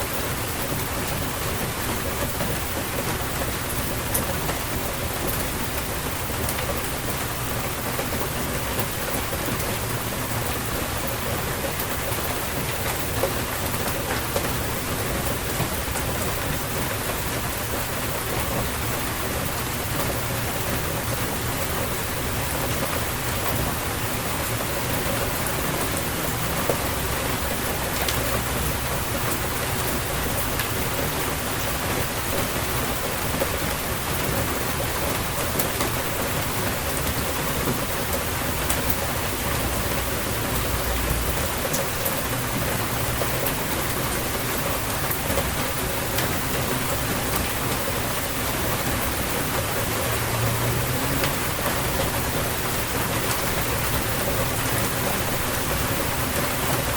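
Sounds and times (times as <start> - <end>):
dense rain falling: 0.0 - 56.9
raindrop ticks: 0.2 - 56.9.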